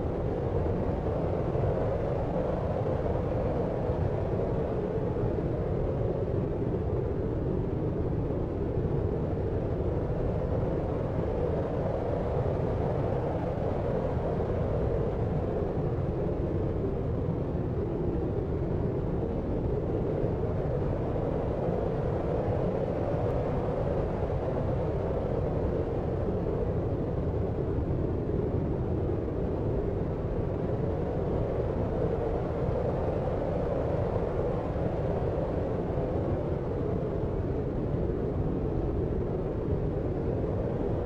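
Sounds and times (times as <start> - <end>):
low rumbling white noise: 0.0 - 41.0.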